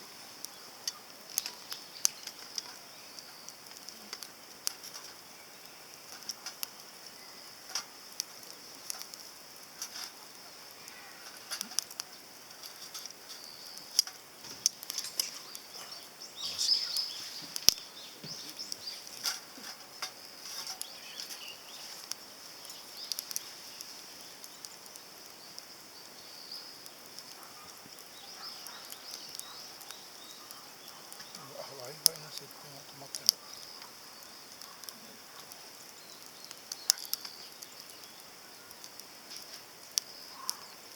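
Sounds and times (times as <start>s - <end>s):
steady high-pitched hiss: 0.0s - 40.9s
wood fire crackling: 0.0s - 40.9s.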